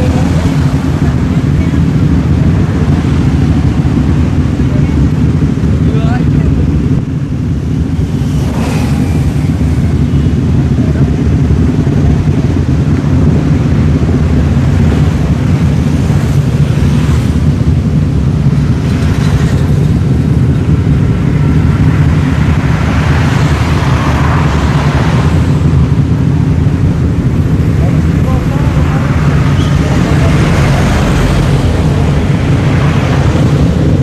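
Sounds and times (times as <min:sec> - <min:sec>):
motorcycle engines idling: 0:00.0 - 0:34.0.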